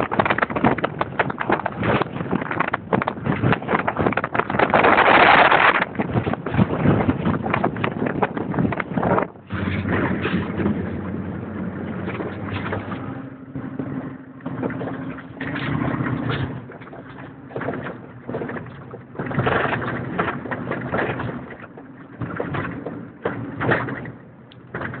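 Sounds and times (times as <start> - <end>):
knocks and rattles: 0.0 - 25.0
pickup truck engine drone: 0.0 - 25.0.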